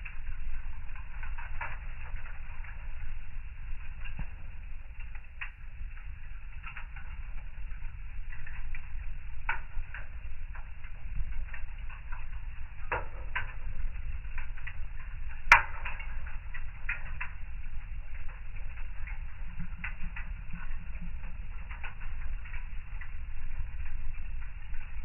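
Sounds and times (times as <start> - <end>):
fire crackling in fireplace: 0.0 - 25.0.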